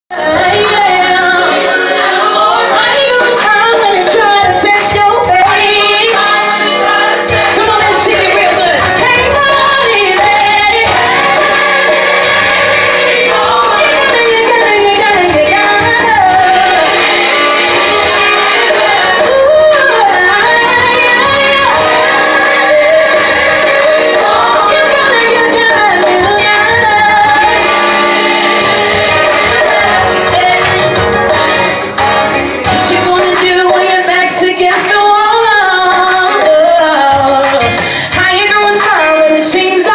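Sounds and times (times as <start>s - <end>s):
instrumental accompaniment: 0.1s - 39.9s
woman singing gospel song: 0.1s - 39.9s.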